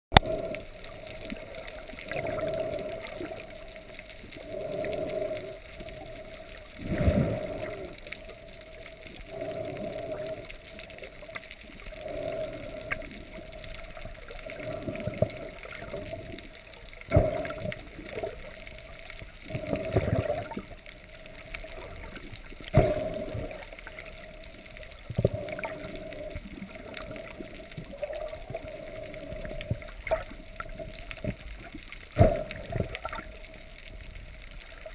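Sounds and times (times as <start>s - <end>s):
muffled underwater water noise: 0.1s - 34.9s.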